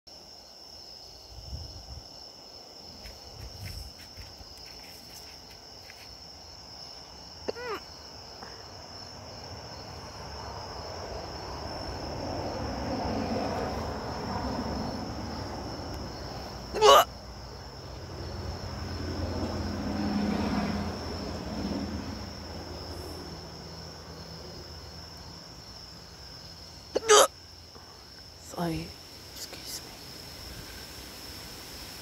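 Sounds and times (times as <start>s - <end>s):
crickets chirping: 0.1s - 32.0s.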